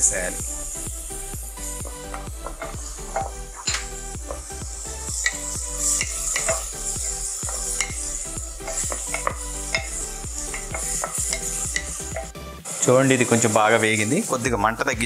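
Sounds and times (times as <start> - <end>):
background music: 0.0 - 15.0
food sizzling in hot oil: 0.0 - 15.0
spatula scraping a pan: 1.8 - 14.4.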